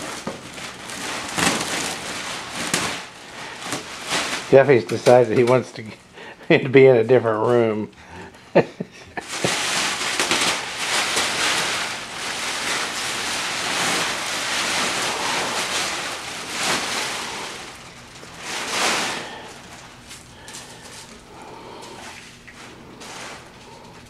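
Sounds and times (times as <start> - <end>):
plastic wrapping rustling: 0.0 - 24.0.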